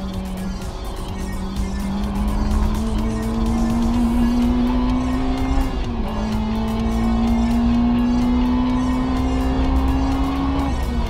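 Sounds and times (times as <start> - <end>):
music: 0.0 - 11.0
race car engine revving: 0.0 - 11.0.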